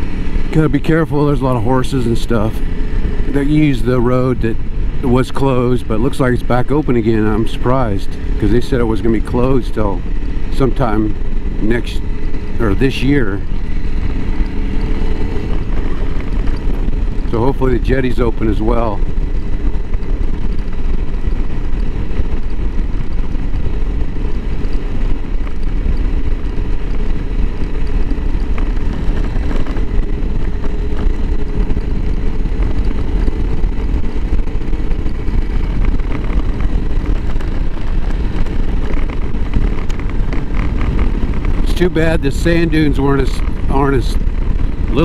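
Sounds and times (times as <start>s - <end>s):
motorcycle engine running: 0.0s - 45.0s
wind noise: 0.0s - 45.0s.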